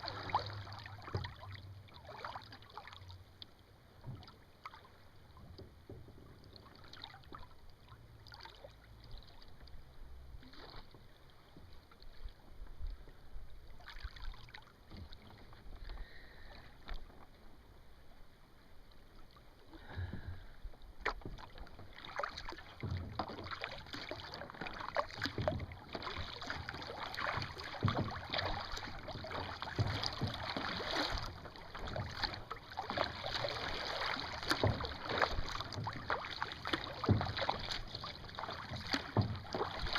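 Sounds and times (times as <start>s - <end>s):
water splashing against kayak hull: 0.0s - 39.9s.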